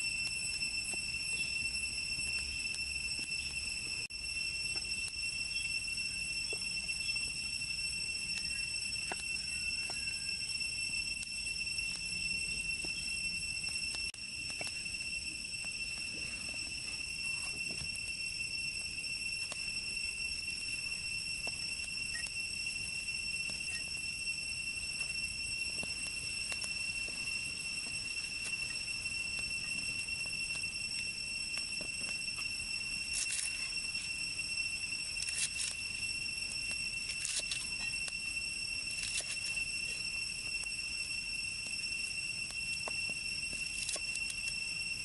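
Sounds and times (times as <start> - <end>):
high-pitched whine: 0.0 - 45.0
insects droning: 0.0 - 45.0.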